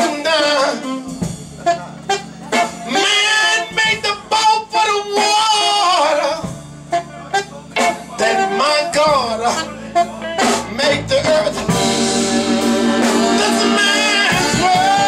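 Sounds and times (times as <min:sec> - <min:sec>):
man singing into a microphone: 0:00.0 - 0:01.4, 0:02.9 - 0:15.0
live soul band playing: 0:00.0 - 0:15.0
saxophone: 0:00.0 - 0:15.0.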